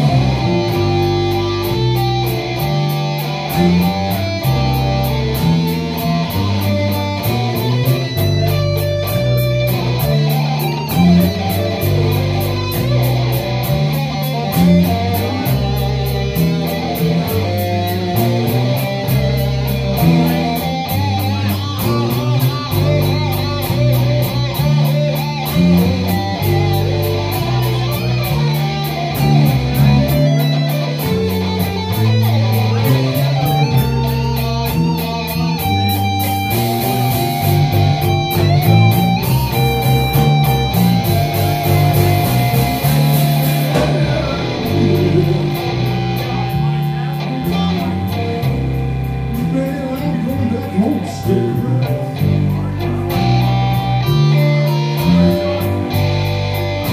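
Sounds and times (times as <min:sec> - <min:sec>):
drums: 0:00.0 - 0:56.9
electric bass: 0:00.0 - 0:56.9
electric guitars: 0:00.0 - 0:56.9.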